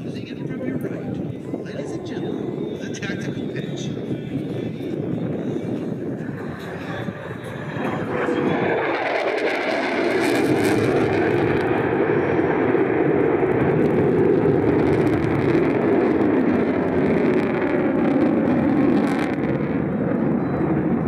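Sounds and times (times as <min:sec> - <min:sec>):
jet engine in afterburner: 0:00.0 - 0:21.0.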